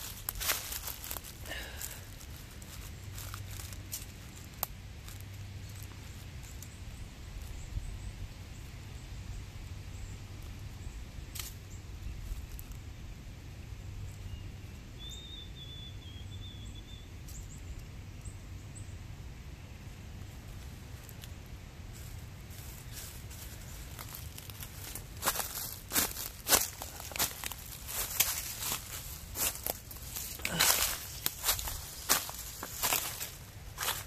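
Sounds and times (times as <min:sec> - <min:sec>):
steady low rumble: 0:00.0 - 0:15.0, 0:17.0 - 0:34.0.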